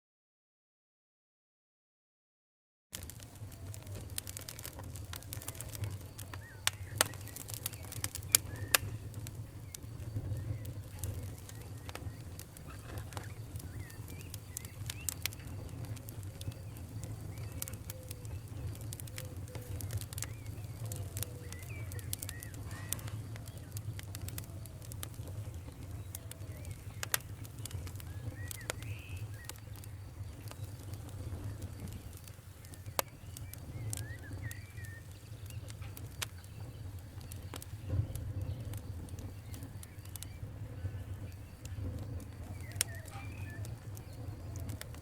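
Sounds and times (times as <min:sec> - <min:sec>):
wood fire crackling and popping: 0:02.9 - 0:45.0
faint chirp-like whistles: 0:03.0 - 0:45.0.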